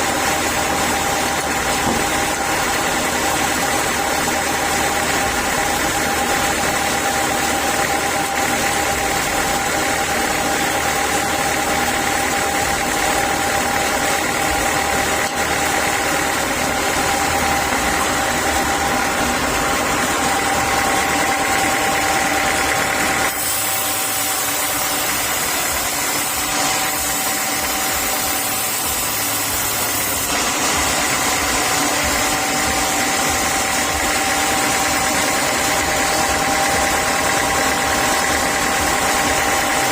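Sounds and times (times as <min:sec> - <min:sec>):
high steady whine: 0:00.0 - 0:39.9
sawmill machinery motor hum: 0:00.0 - 0:39.9.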